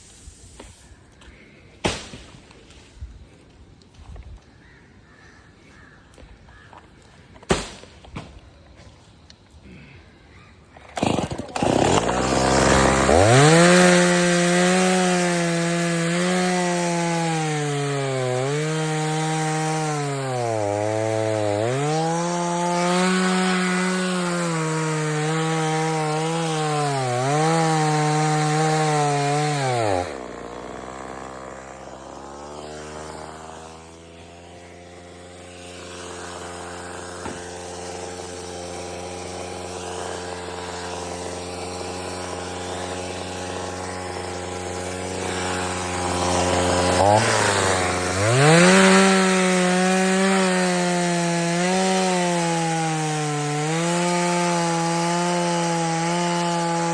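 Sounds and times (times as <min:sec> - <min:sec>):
chainsaw cutting wood: 0:10.7 - 0:56.9.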